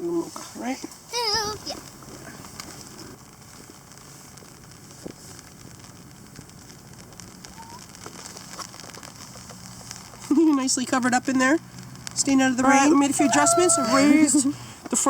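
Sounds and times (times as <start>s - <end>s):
rain pattering: 0.0s - 15.0s
small ticks and crackles: 0.0s - 15.0s.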